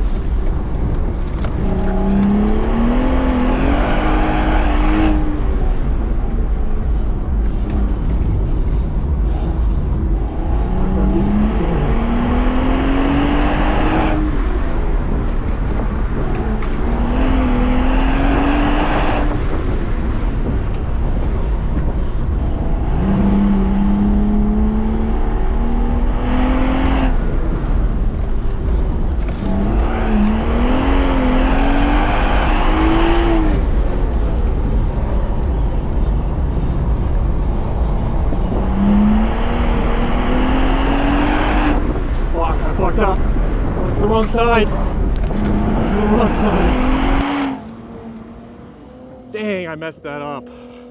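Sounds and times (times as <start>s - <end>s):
low rumble: 0.0s - 49.8s
car engine accelerating hard: 0.0s - 50.9s.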